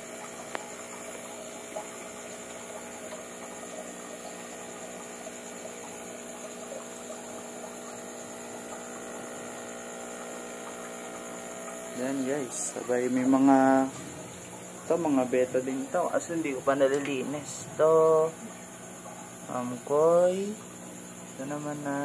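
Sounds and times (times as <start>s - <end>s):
aquarium pumps humming: 0.0s - 22.0s.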